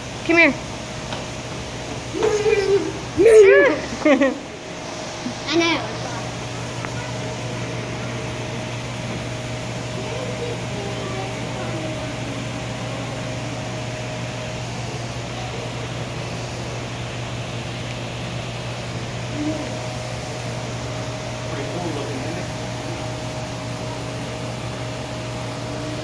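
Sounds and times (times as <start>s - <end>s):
mechanical hum: 0.0s - 26.0s
thin constant whine: 0.0s - 26.0s.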